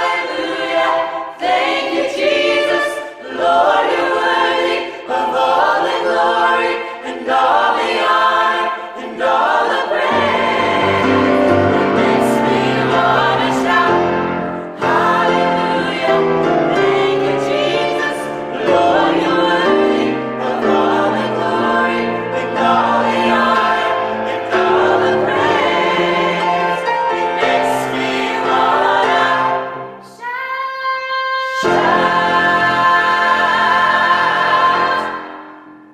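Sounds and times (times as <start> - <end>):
vocal ensemble singing gospel: 0.0 - 35.9.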